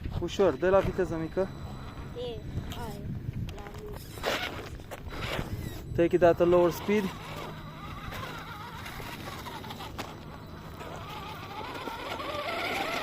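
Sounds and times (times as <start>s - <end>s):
electric motor whining: 0.1s - 13.0s.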